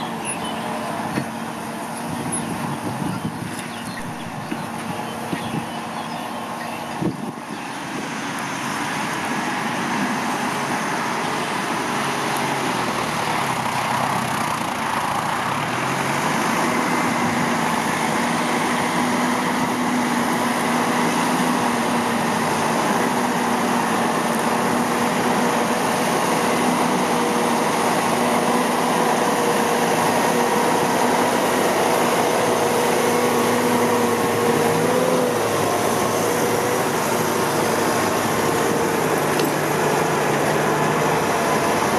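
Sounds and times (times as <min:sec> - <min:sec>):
blade pushing soil: 0:00.0 - 0:41.9
tractor diesel engine running: 0:00.0 - 0:41.9.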